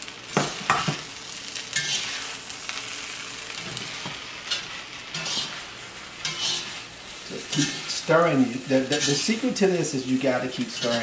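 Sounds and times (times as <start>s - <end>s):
food sizzling in a wok: 0.0s - 11.0s
wooden spatula scraping wok: 0.4s - 2.6s, 3.5s - 11.0s.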